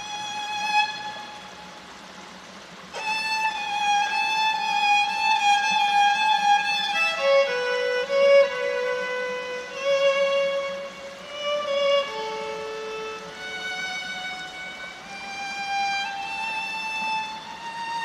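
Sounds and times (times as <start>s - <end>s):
solo violin bowed: 0.0s - 18.0s.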